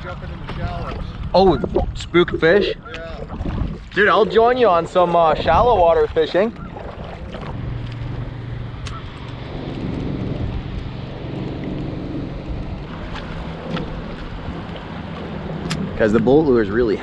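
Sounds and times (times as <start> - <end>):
water moving along kayak hull: 0.0 - 17.0
wind noise on microphone: 0.0 - 17.0.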